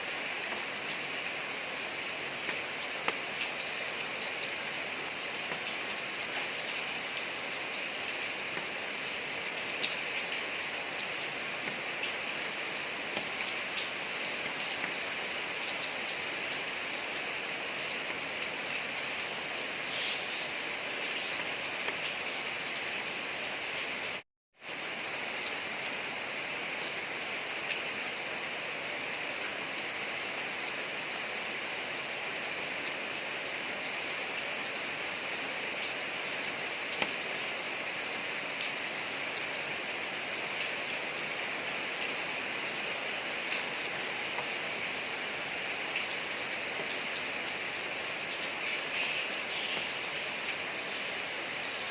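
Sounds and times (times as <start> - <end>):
rain falling on a street: 0.0 - 51.9.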